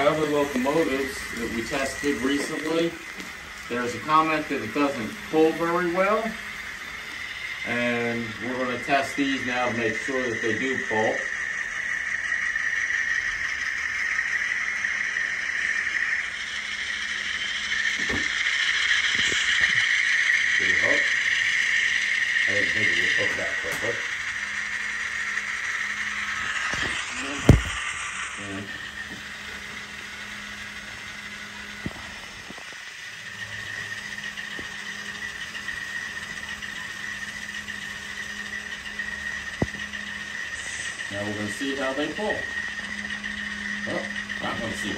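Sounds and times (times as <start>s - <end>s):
diesel locomotive engine through small speaker: 0.0s - 44.9s.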